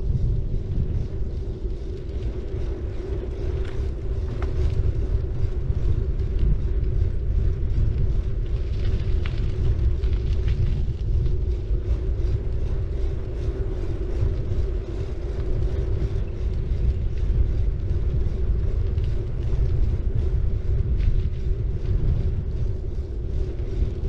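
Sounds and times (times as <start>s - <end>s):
bike tyres rumbling on road: 0.0s - 24.0s
steady hum: 0.0s - 24.0s.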